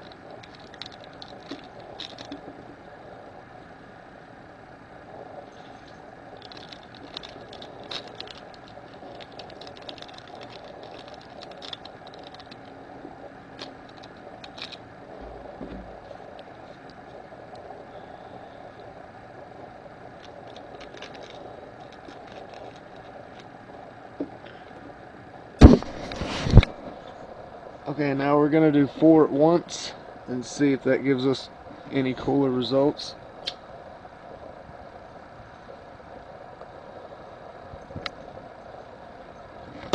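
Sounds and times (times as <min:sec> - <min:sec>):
low background hum: 0:00.0 - 0:39.9.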